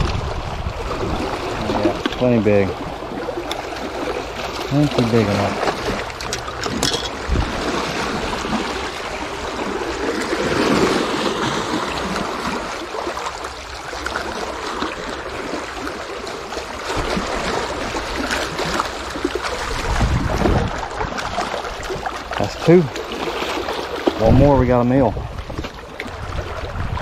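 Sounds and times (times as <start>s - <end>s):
small waves splashing on rocks: 0.0s - 27.0s.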